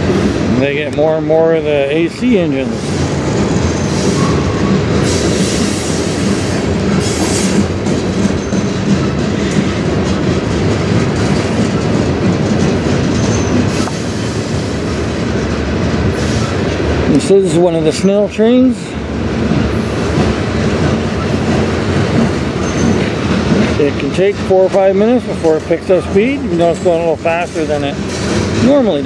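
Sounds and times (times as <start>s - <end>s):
freight train rumbling past: 0.0s - 29.0s
wheels clacking over rail joints: 0.0s - 29.0s.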